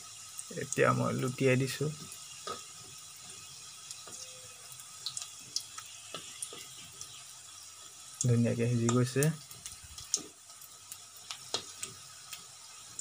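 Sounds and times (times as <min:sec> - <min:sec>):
deep-frying oil sizzling: 0:00.0 - 0:13.0.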